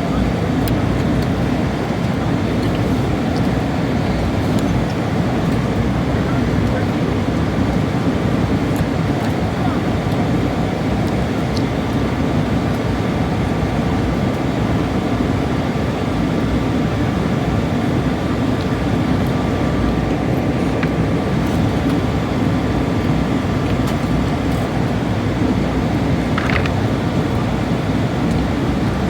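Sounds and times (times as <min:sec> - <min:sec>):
airliner cabin roar: 0:00.0 - 0:29.0.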